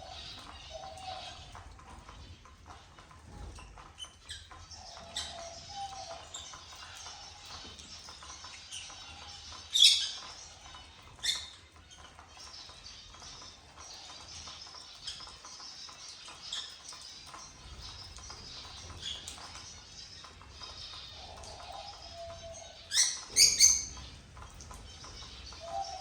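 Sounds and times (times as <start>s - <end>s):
finches chirping and twittering: 0.0s - 26.0s.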